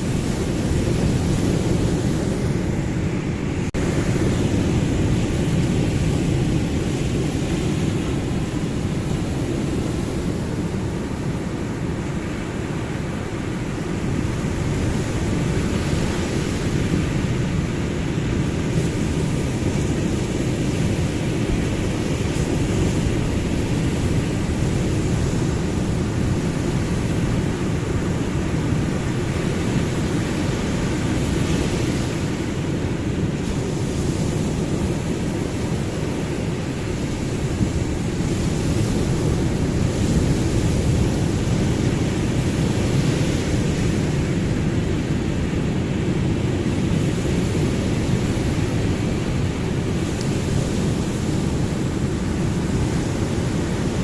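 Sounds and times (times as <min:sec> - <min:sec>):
ocean surf washing: 0:00.0 - 0:54.0.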